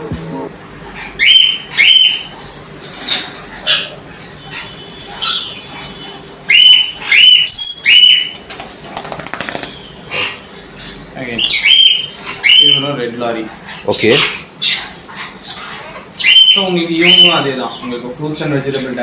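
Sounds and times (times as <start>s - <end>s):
parrots squawking: 0.0s - 8.4s, 9.5s - 18.2s.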